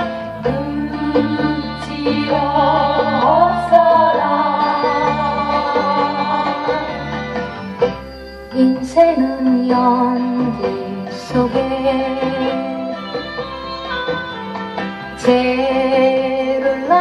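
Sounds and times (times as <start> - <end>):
folk ballad from vinyl record: 0.0 - 17.0.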